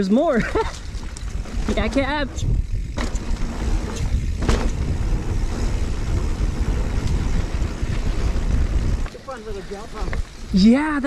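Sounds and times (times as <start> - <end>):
bike tyres rumbling on dirt: 0.1 - 11.0
wind buffeting microphone: 0.4 - 11.0.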